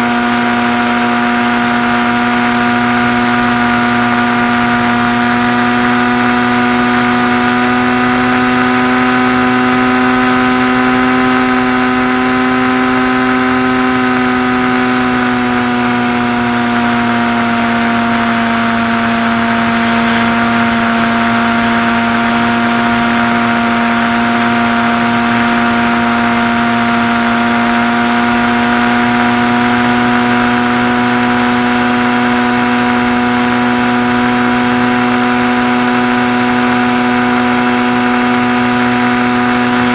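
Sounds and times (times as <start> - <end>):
model plane motor droning: 0.0 - 39.9.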